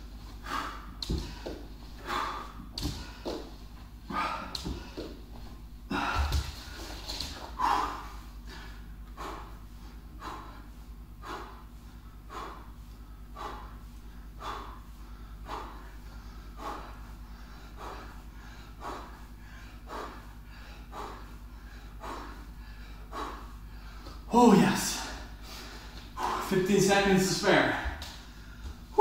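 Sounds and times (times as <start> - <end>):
man breathing hard: 0.2 - 29.0.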